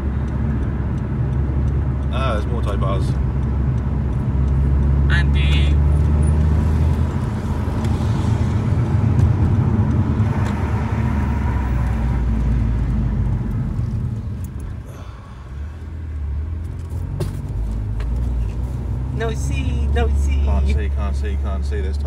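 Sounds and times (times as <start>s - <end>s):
car engine rumble: 0.0s - 22.0s
road noise inside car: 0.0s - 22.0s.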